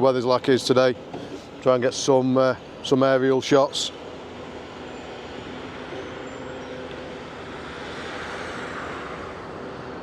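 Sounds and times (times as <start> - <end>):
road traffic rush: 0.0 - 10.0.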